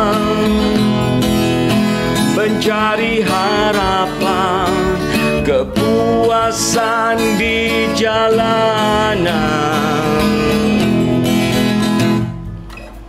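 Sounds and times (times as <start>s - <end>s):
man singing with vibrato: 0.0s - 11.9s
acoustic guitar: 0.0s - 13.0s.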